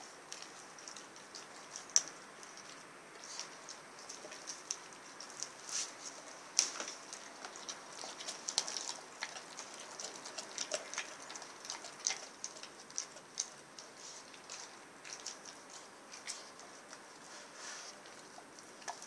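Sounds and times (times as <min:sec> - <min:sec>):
dog chewing meat and bone: 0:00.0 - 0:19.0.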